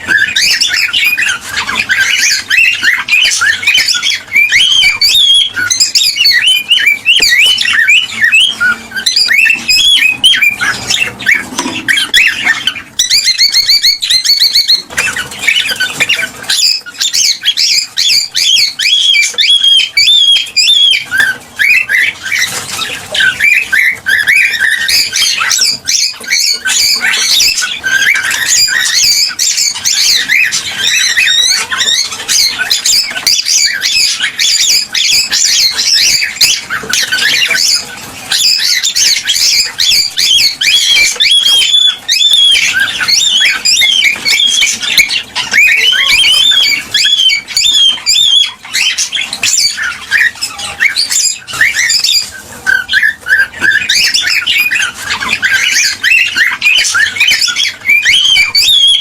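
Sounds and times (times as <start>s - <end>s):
cockatiels chirping and squawking: 0.0s - 59.0s.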